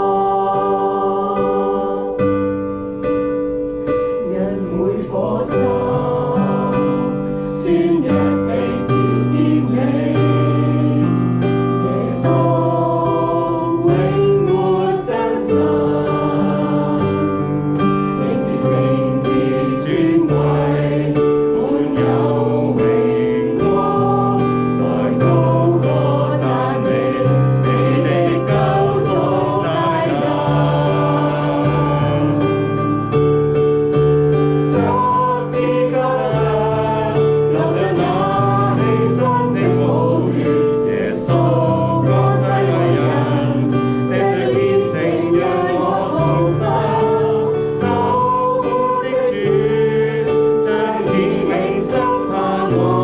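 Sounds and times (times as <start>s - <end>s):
congregation singing: 0.0s - 53.0s
piano chords: 0.0s - 53.0s.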